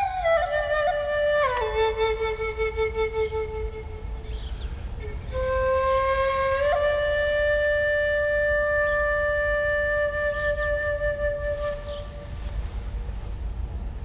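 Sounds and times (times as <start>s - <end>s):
long flute note: 0.0s - 12.9s.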